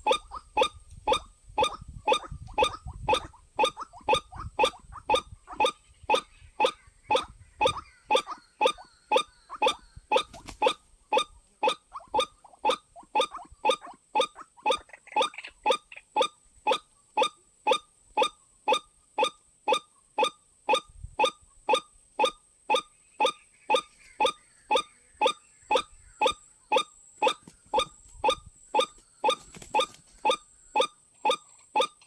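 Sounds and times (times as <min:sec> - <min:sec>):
waterhen calling short notes: 0:00.0 - 0:32.0.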